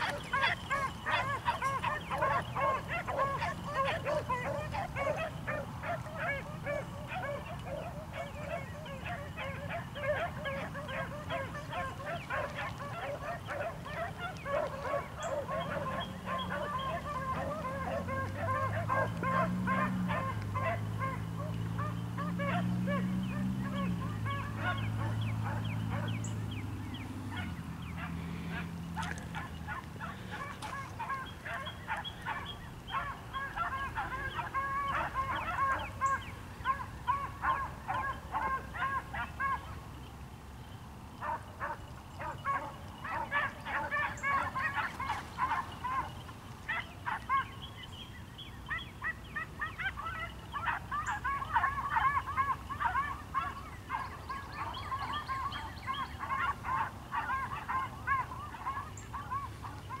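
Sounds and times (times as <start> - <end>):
pack of hounds baying: 0.0 - 40.1, 41.1 - 60.0.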